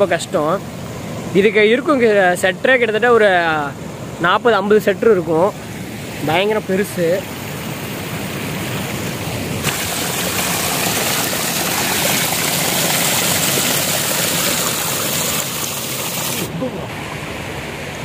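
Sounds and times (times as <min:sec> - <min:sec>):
water rushing through dam: 0:00.0 - 0:18.0.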